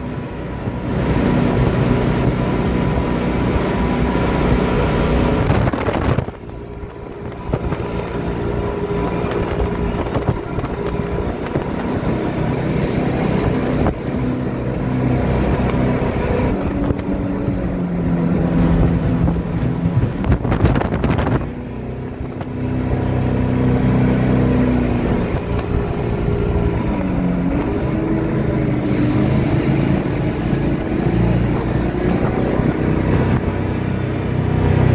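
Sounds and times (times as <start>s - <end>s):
motorboat engine running: 0.0s - 34.9s
wind on microphone: 0.0s - 34.9s.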